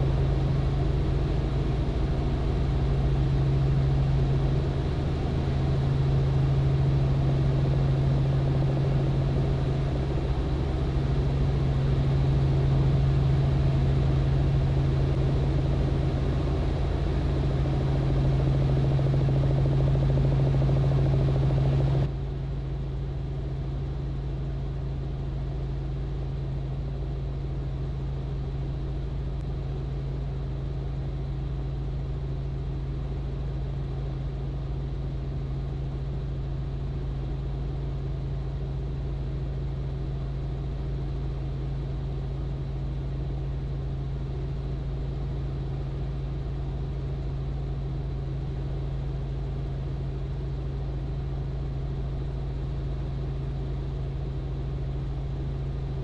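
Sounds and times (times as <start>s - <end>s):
helicopter engine and rotors droning: 0.0s - 56.0s.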